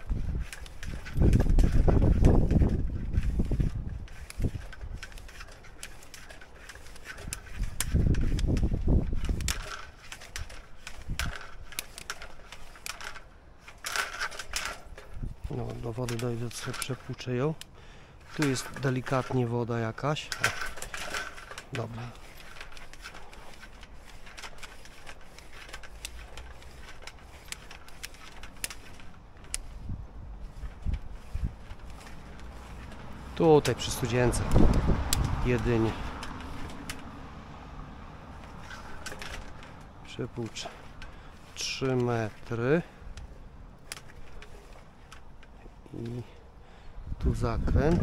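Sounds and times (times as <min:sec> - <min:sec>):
cable handling clicks and scrapes: 0:00.0 - 0:48.0.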